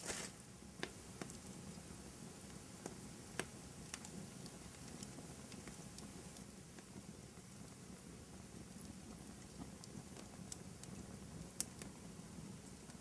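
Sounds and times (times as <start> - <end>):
fire crackling and popping: 0.0 - 13.0
fire hissing: 0.0 - 13.0.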